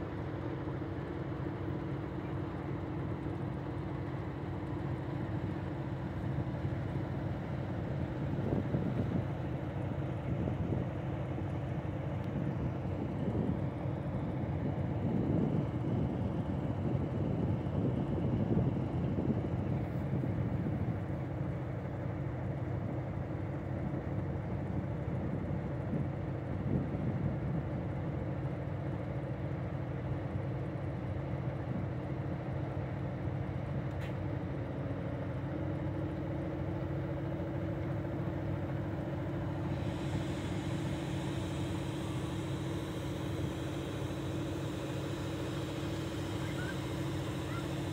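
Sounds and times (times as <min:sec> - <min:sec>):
diesel locomotive idling: 0:00.0 - 0:47.9.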